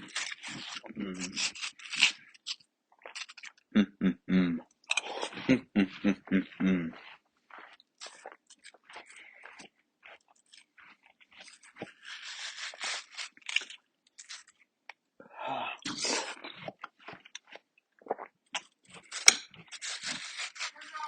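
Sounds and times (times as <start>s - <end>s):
watermelon crunching: 0.0s - 21.0s.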